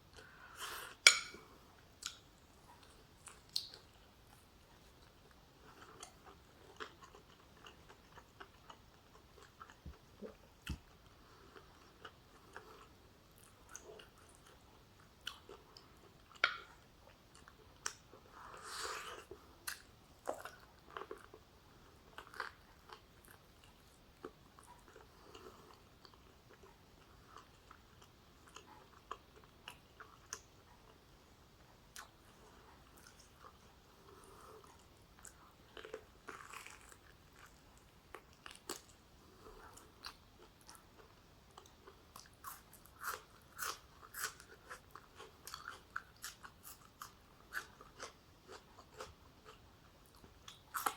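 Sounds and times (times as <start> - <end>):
person chewing food: 0.1 - 31.0, 31.8 - 50.9.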